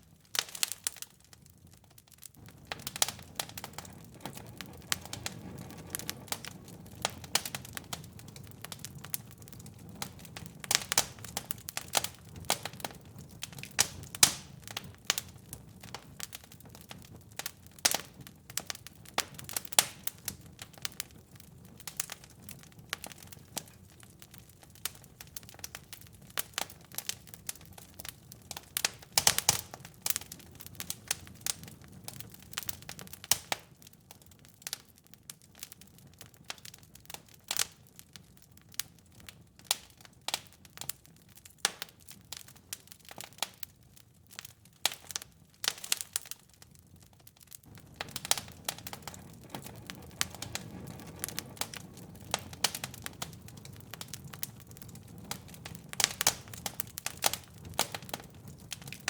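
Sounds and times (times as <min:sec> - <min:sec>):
fireplace fire crackling: 0:00.0 - 0:59.0
low rumble of flames: 0:00.0 - 0:59.0.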